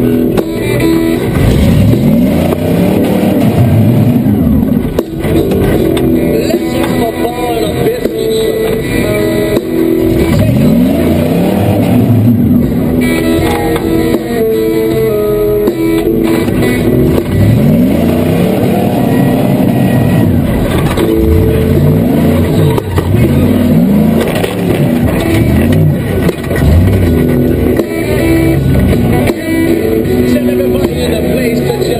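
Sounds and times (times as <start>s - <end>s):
buggy engine revving: 0.0s - 31.9s
guitar music: 0.0s - 31.9s.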